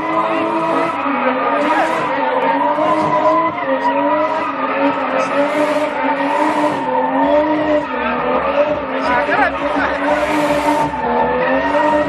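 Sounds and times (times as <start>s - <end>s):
car engine revving: 0.0s - 12.0s
tyres screeching: 0.0s - 12.0s.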